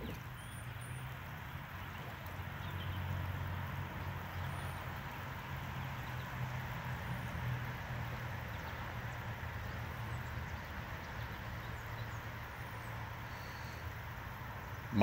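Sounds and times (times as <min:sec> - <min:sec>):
light rain on water: 0:00.0 - 0:15.0.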